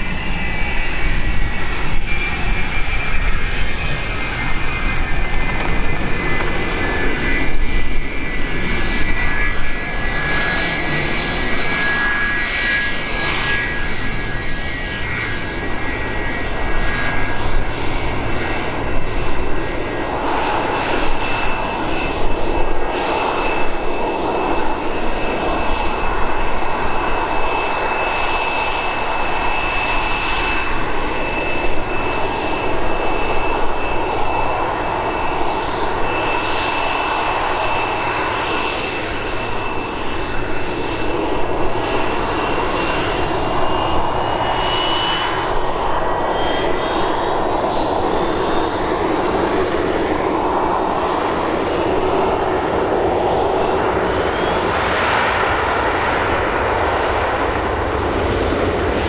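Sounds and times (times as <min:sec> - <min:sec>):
jet engines idling with whine: 0:00.0 - 0:59.0.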